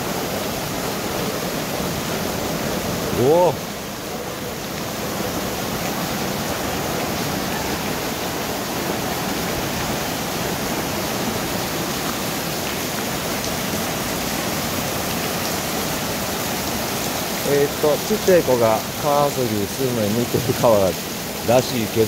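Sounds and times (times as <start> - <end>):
river in flood rushing: 0.0 - 22.0.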